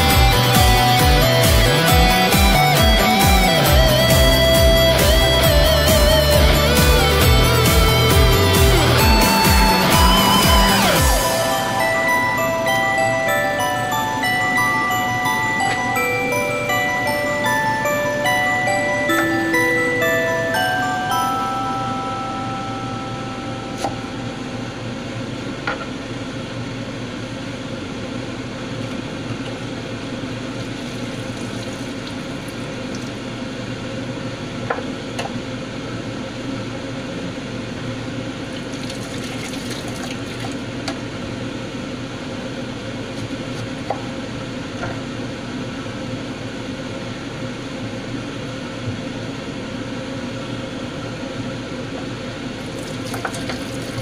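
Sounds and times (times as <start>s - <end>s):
faint hum: 0.0s - 54.0s.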